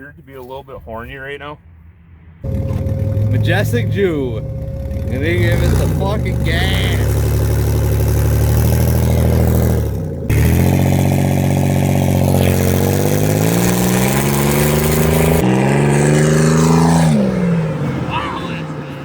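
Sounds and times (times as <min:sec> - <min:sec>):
minivan engine accelerating: 0:02.4 - 0:19.0.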